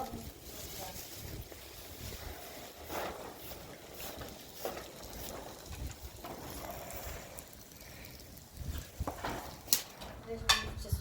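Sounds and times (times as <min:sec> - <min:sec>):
wind rumbling on microphone: 0:00.0 - 0:04.3, 0:05.0 - 0:07.4, 0:08.1 - 0:11.0.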